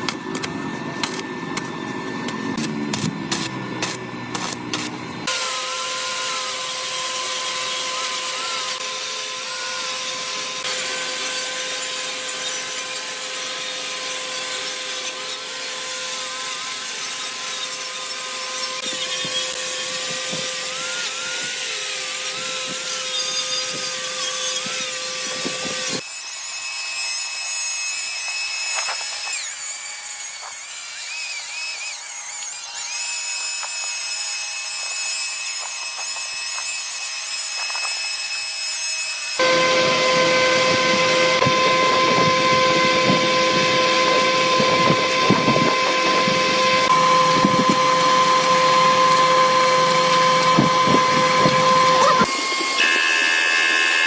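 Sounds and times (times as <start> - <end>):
higher-pitched power tool: 0.0 - 54.0
power tool grinding: 0.0 - 54.0.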